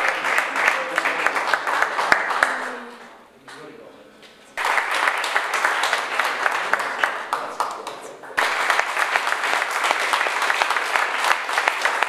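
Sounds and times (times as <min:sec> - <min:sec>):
audience applauding: 0:00.0 - 0:03.1, 0:04.6 - 0:12.0.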